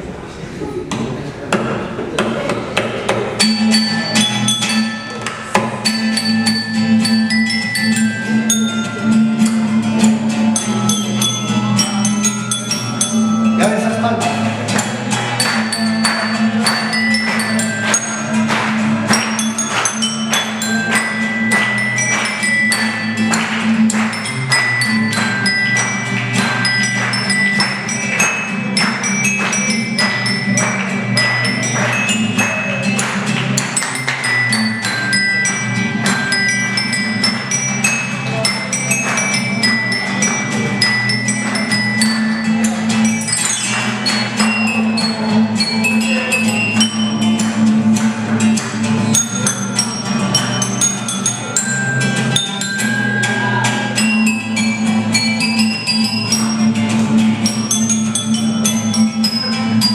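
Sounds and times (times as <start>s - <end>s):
rhythmic percussion: 1.0s - 59.9s
tuned tubes melody: 3.2s - 59.9s.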